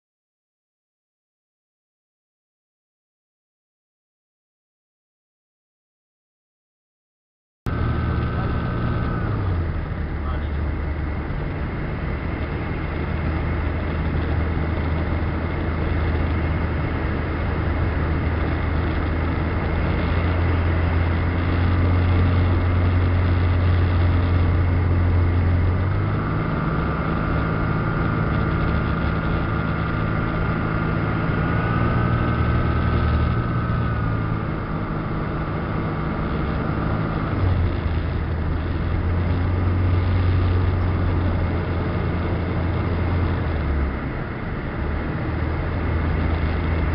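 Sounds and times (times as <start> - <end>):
propeller engine droning: 7.7 - 46.9.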